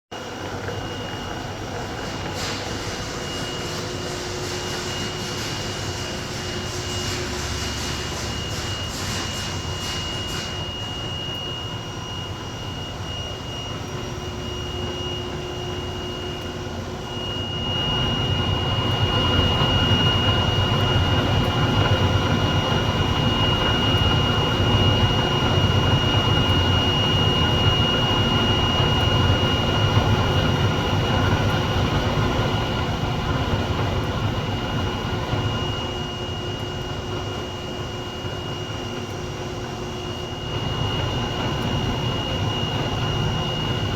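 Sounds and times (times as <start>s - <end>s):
machine whining and rumbling: 0.2s - 43.9s.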